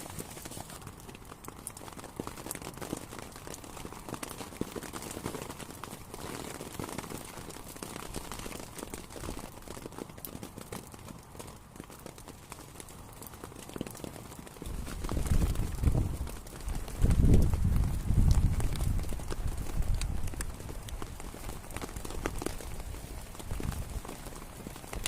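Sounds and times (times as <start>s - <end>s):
rain hiss: 0.0s - 25.0s
raindrops striking surface: 0.0s - 25.0s.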